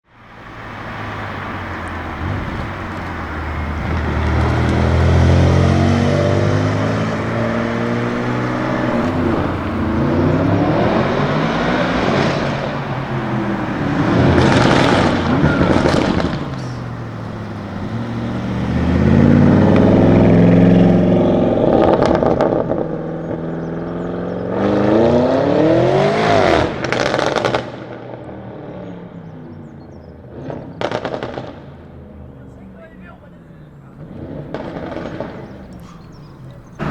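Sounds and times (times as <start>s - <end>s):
car engine revving: 0.2s - 29.6s, 30.2s - 36.9s
exhaust crackles: 0.6s - 23.6s, 30.4s - 36.9s.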